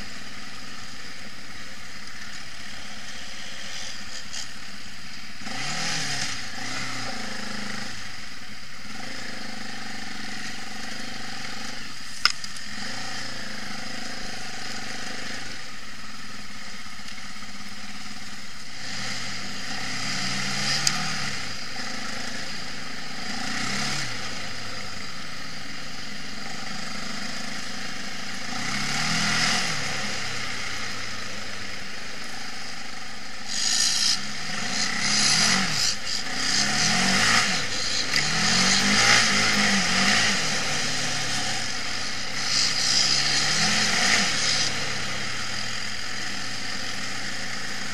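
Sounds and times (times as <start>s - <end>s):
quad bike engine revving: 5.4s - 16.2s, 17.2s - 47.9s.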